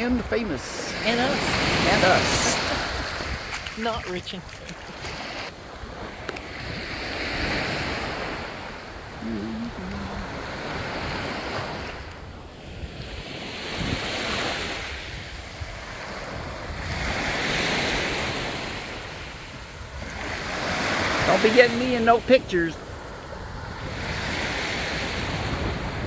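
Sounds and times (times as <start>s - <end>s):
small waves breaking on beach: 0.0s - 26.0s
wind rumbling on microphone: 0.8s - 21.3s, 22.8s - 26.0s.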